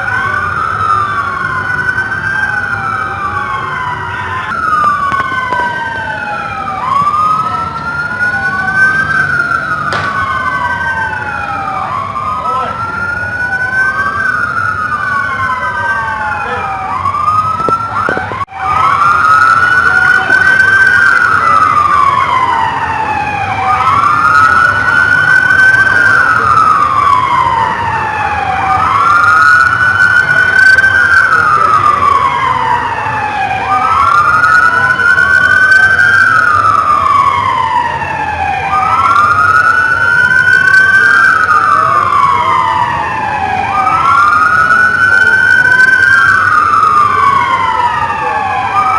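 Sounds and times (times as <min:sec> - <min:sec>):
police siren wailing: 0:00.0 - 0:48.9.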